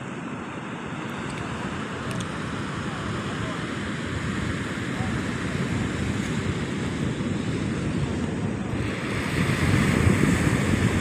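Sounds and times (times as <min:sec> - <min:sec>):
surf breaking on beach: 0:00.2 - 0:11.0
wind buffeting microphone: 0:01.1 - 0:11.0.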